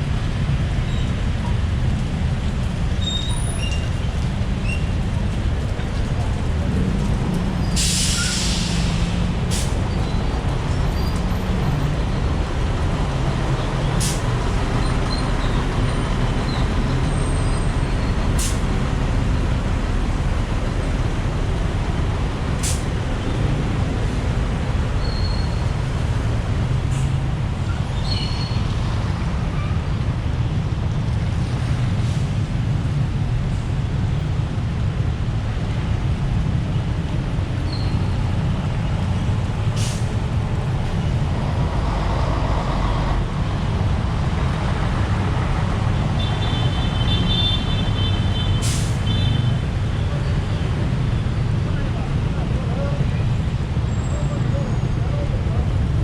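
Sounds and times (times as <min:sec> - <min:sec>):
traffic rumble on wet road: 0:00.0 - 0:56.0.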